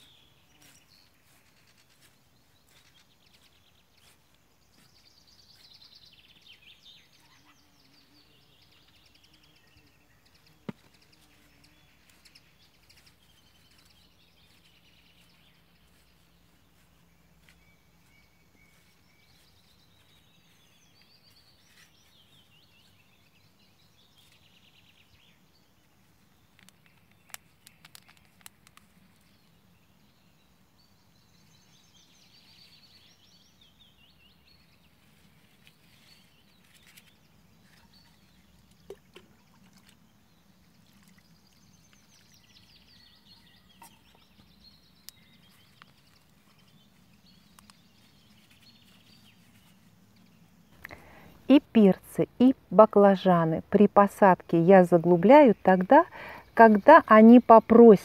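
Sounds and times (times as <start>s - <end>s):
songbirds trilling: 0.0s - 58.0s.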